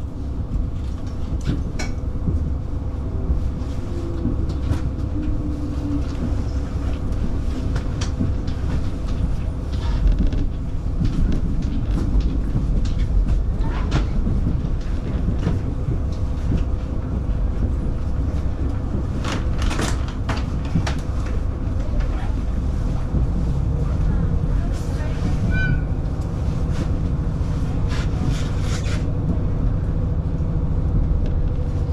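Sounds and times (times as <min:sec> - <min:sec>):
diesel railcar rumbling: 0:00.0 - 0:31.9.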